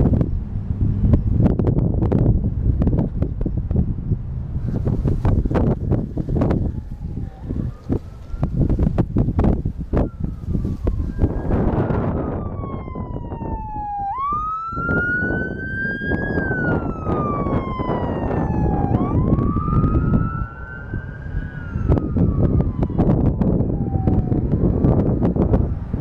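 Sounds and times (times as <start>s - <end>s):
wind rumble on microphone: 0.0s - 26.0s
emergency vehicle siren wailing: 5.2s - 26.0s.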